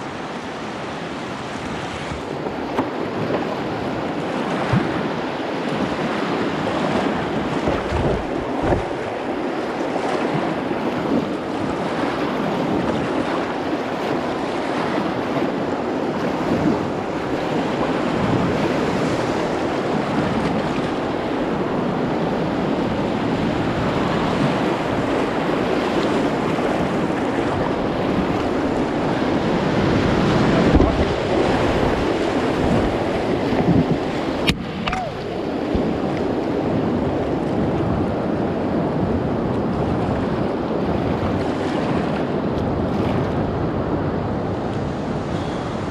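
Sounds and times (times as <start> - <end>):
whitewater rushing: 0.0 - 45.9
wind gusting on microphone: 0.0 - 45.9.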